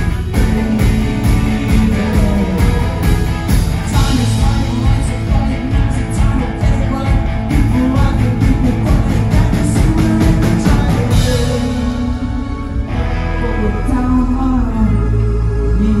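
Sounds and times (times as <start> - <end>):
drums with steady beat: 0.0 - 13.2
bass guitar: 0.0 - 16.0
electric guitar: 0.0 - 16.0.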